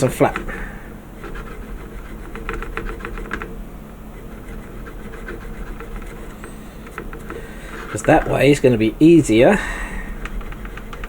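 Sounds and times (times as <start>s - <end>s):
hand file rasping on plastic: 0.0s - 3.5s, 4.1s - 8.7s, 9.4s - 11.0s.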